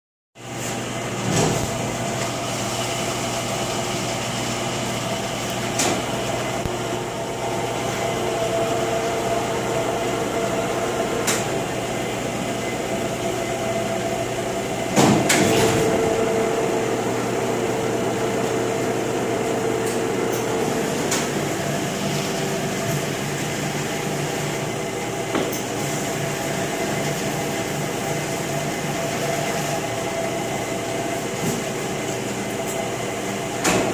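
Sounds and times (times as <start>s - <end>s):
lathe machine hum: 1.8s - 14.9s, 15.8s - 33.6s
lathe whine: 1.8s - 14.9s, 16.0s - 33.6s.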